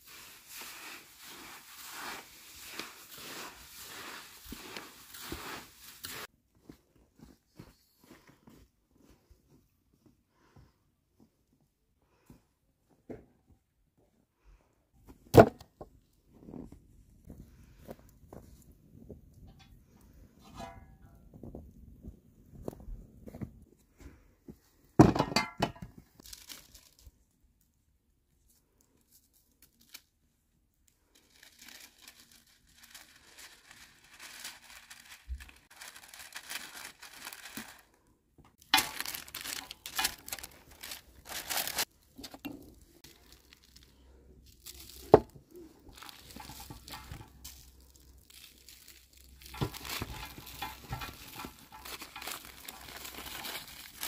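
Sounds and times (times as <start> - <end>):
rustling and crinkling handling noise: 0.0 - 12.3, 15.0 - 54.0.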